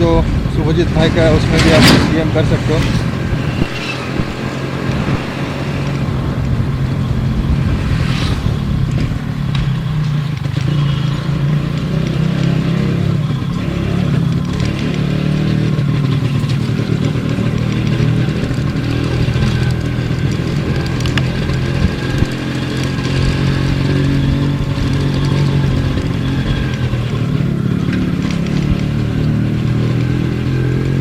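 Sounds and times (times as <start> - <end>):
two-stroke engine running: 0.0 - 31.0.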